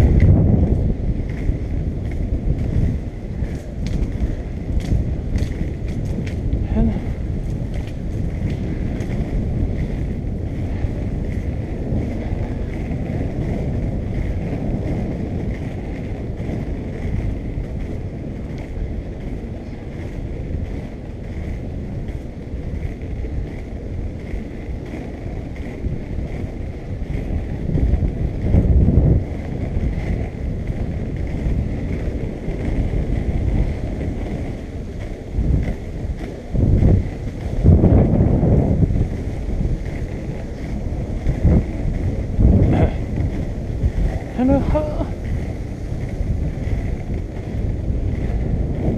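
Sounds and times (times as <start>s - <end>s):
skate wheels rolling on asphalt: 0.0s - 48.9s
wind buffeting microphone: 0.0s - 48.9s.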